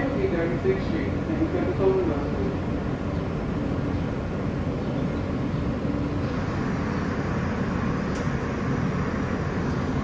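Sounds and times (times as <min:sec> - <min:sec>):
subway car low hum: 0:00.0 - 0:10.0.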